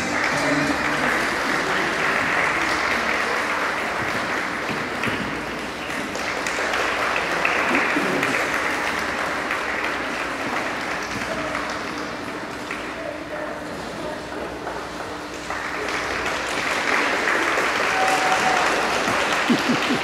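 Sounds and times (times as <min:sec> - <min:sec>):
audience applauding: 0:00.0 - 0:13.0, 0:15.4 - 0:20.0.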